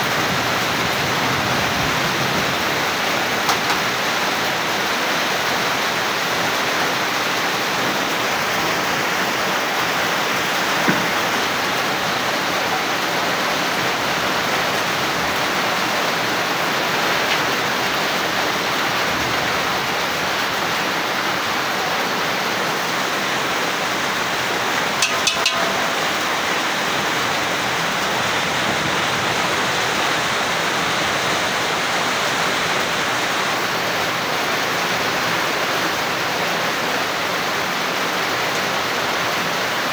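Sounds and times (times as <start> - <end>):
heavy rain hiss: 0.0 - 39.9
water streaming off roof: 0.0 - 39.9.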